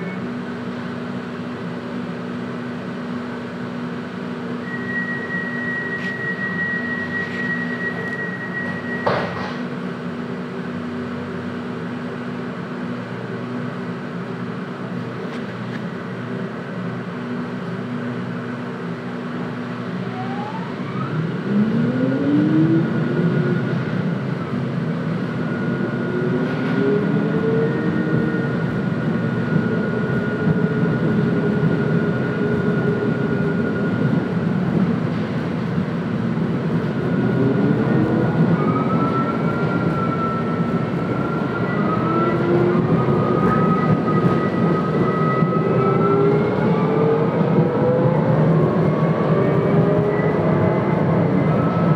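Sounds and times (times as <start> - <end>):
tram motors whining: 0.0 - 51.9
tram running noise: 0.0 - 51.9.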